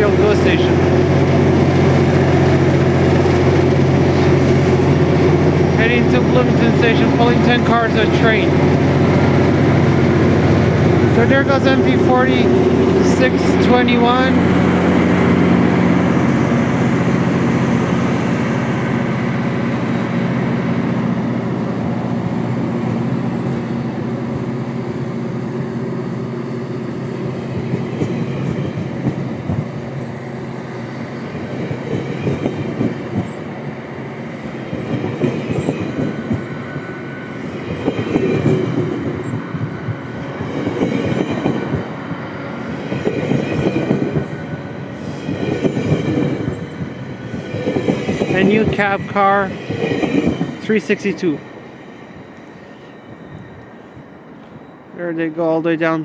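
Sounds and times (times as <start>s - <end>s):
train wheels clacking on rails: 0.0s - 54.6s
diesel locomotive engine: 0.0s - 56.0s.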